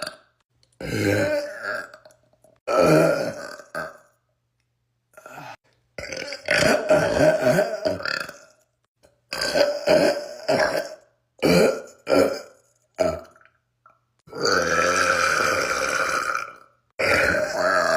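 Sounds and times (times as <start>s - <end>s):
man burping: 0.0s - 4.2s, 5.2s - 13.5s, 14.3s - 17.9s.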